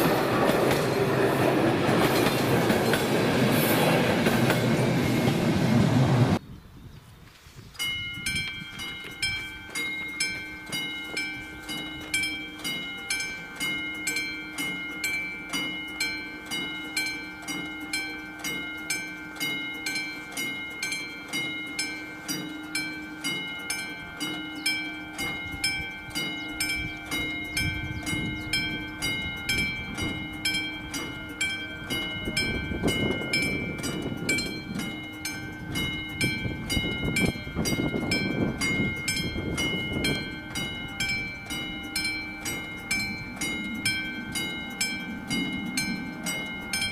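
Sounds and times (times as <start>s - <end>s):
level crossing warning bell: 0.0s - 5.4s, 7.8s - 46.9s.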